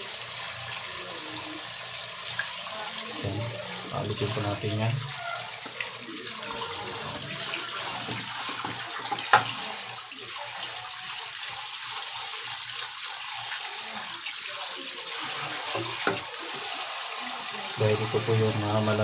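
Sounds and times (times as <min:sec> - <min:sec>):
fish being rinsed and rubbed: 0:00.0 - 0:19.0
tap water running: 0:00.0 - 0:19.0.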